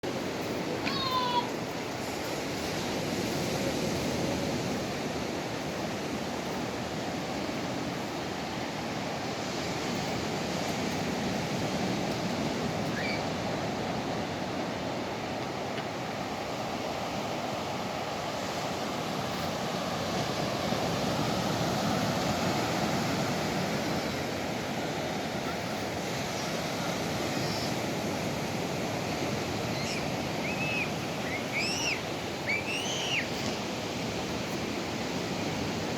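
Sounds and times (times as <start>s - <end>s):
water rushing: 0.0s - 35.9s.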